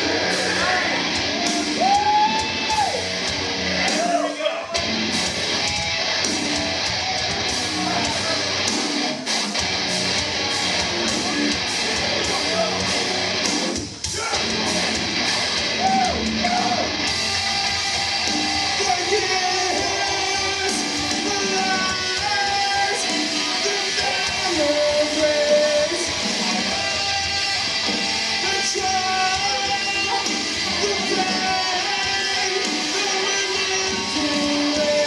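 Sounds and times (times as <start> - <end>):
electric guitar: 0.0 - 4.1, 4.7 - 35.0
drums: 0.0 - 35.0.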